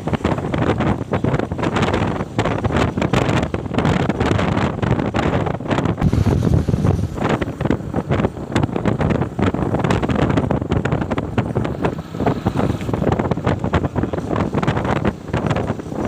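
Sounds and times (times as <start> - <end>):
motorcycle engine and road noise: 0.0 - 16.0
wind buffeting microphone: 0.0 - 16.0.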